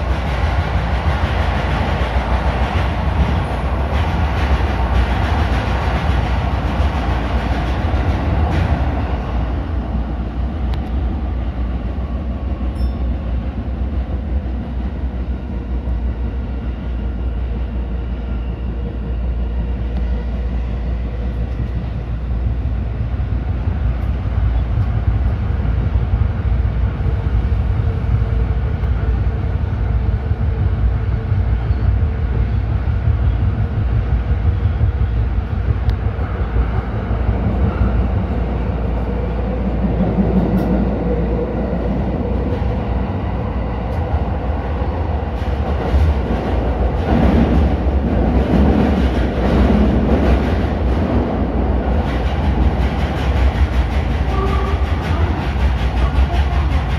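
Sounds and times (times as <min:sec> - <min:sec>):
subway train wheels rumbling: 0:00.0 - 0:56.9.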